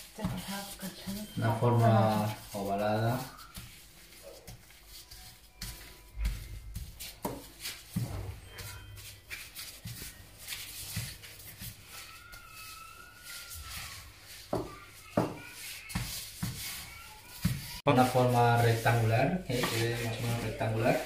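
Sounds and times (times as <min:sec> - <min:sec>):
rolling pin rolling dough: 0:00.0 - 0:21.0.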